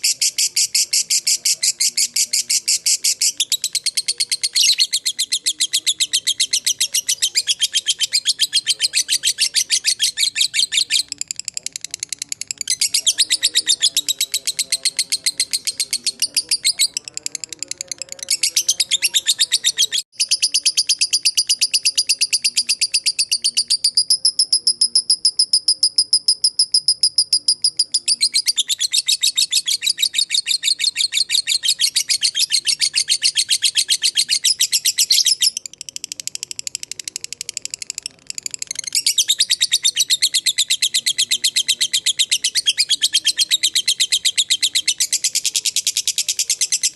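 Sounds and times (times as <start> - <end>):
lovebird chattering trill: 0.0 - 46.9.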